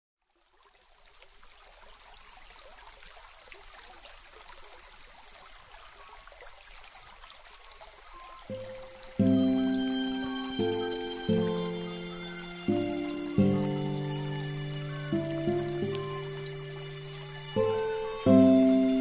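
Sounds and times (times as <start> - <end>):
shallow stream trickling: 0.2 - 19.0.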